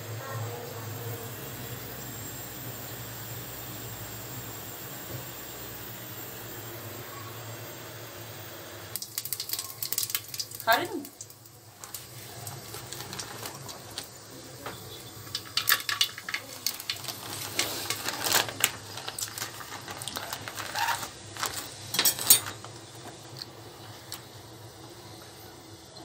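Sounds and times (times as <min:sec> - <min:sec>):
spices crackling in hot oil: 0:00.0 - 0:26.0.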